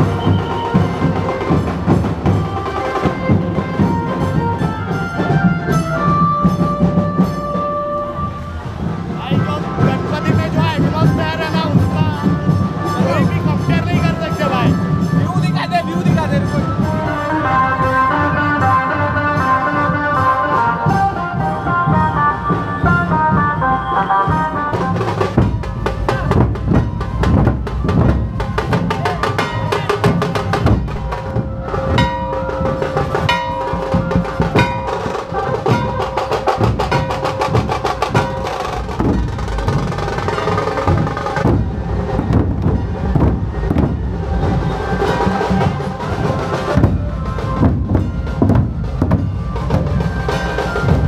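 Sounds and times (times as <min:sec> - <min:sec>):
dhol drums beating: 0:00.0 - 0:51.0.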